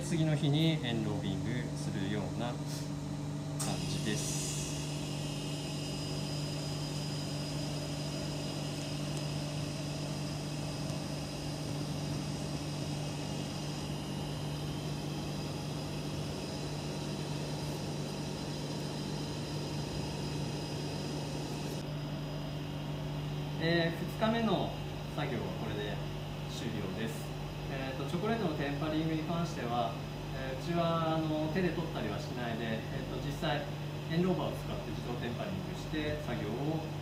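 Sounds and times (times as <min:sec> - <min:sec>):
kitchen machinery humming: 0:00.0 - 0:37.0.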